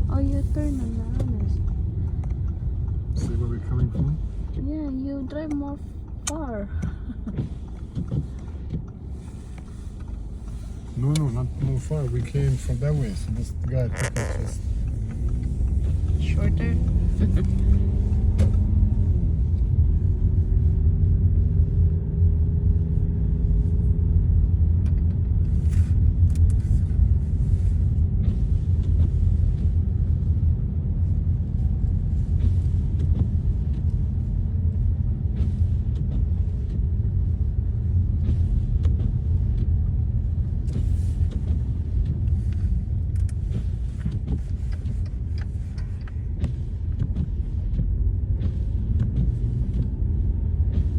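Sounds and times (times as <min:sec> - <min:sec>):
engine and tyre rumble: 0:00.0 - 0:50.9.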